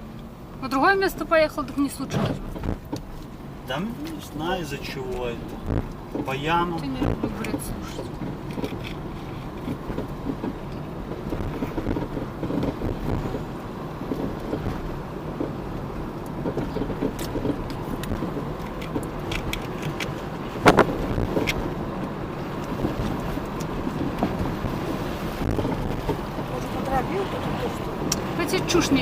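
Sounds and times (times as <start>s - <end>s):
car road noise: 0.0s - 29.0s
car knocks and rattles: 1.7s - 29.0s.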